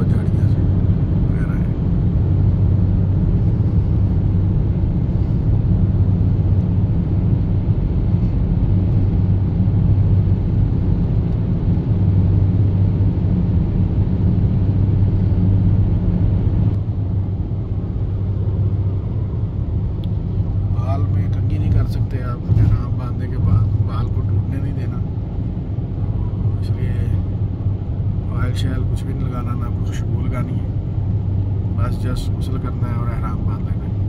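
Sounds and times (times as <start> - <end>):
car road noise from inside: 0.0 - 34.0.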